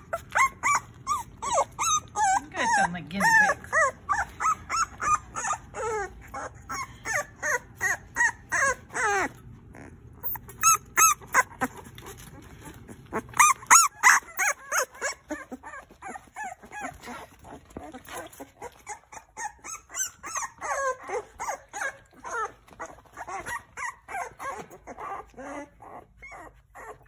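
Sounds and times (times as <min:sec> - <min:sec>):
puppies whining and squealing: 0:00.0 - 0:27.0.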